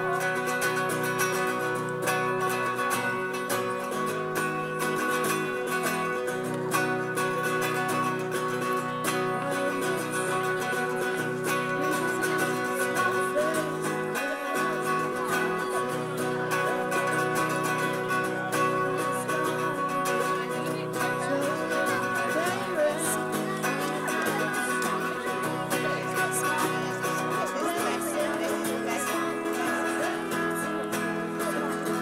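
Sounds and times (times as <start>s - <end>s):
acoustic guitars strumming chords: 0.0s - 32.0s
boy singing: 0.0s - 32.0s.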